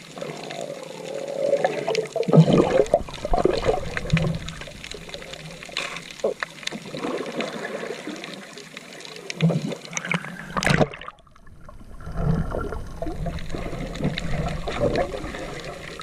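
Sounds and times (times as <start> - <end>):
water sloshing and gurgling: 0.0 - 16.0.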